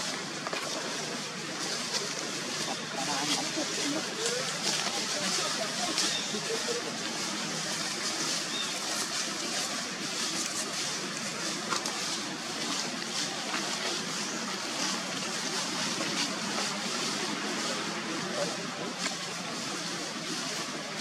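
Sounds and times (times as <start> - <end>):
leaves and branches rustling: 0.0 - 21.0
outdoor background hiss: 0.0 - 21.0.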